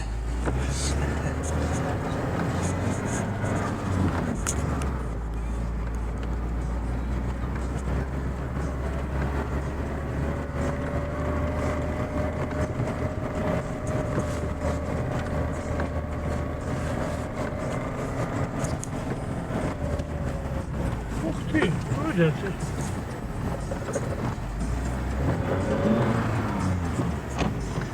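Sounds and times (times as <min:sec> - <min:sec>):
car engine drone in cabin: 0:00.0 - 0:27.9.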